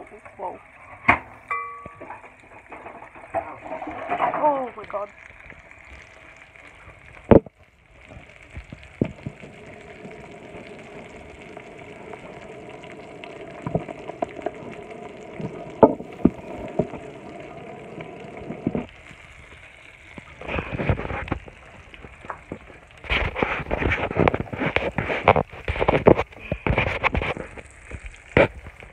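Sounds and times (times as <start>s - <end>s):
food sizzling in a frying pan: 0.0s - 28.9s.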